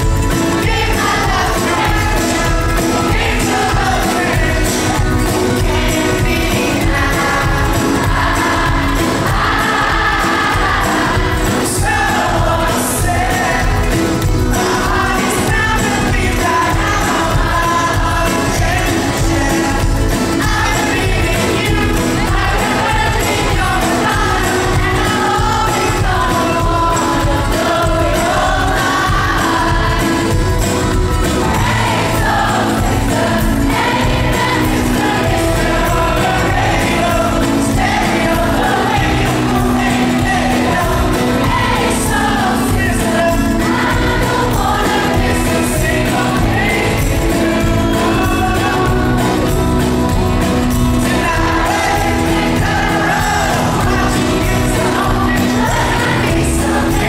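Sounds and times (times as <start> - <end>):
man singing: 0.0 - 8.0, 9.7 - 33.8, 34.5 - 57.0
pop-rock band playing: 0.0 - 57.0.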